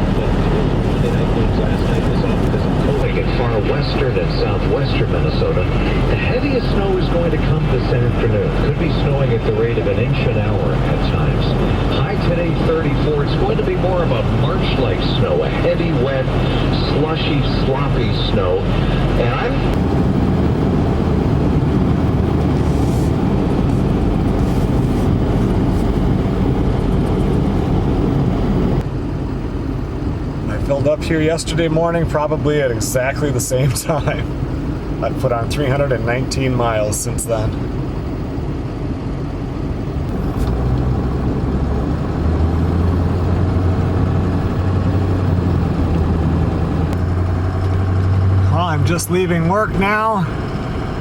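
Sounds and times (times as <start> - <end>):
car road noise: 0.0 - 51.0
vehicle engine humming: 0.0 - 51.0.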